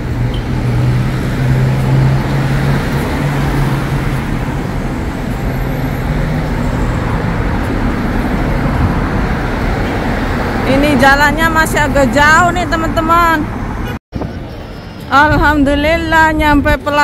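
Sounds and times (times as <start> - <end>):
cars driving past: 0.0 - 15.2.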